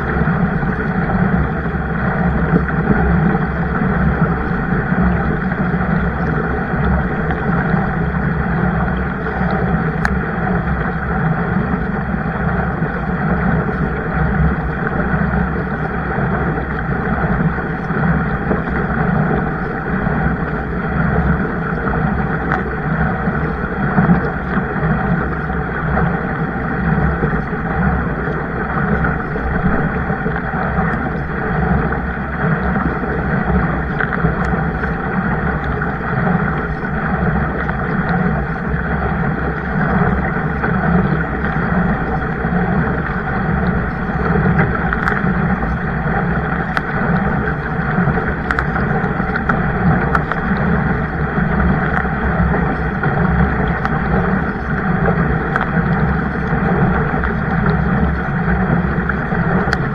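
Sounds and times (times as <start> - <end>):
boat rushing on water: 0.0 - 59.9
faint clicks: 2.5 - 59.9.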